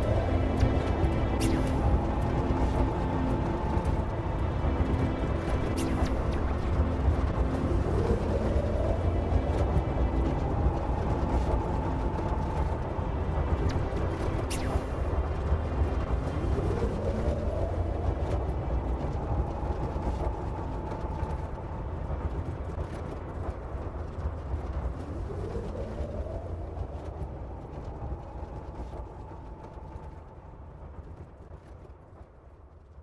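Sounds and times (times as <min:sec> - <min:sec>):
deep steady rumble: 0:00.0 - 0:33.0.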